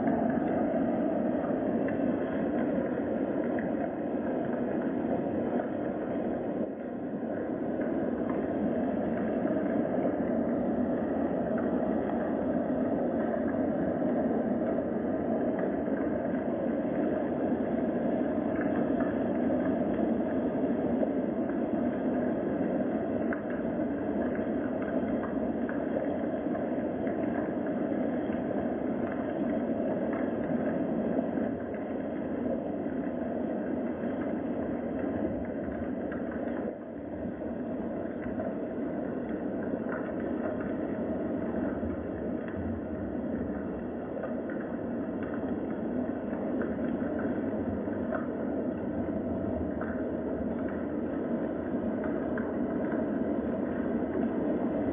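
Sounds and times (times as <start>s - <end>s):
raindrop ticks: 0.0s - 54.9s
steady rain: 0.0s - 54.9s.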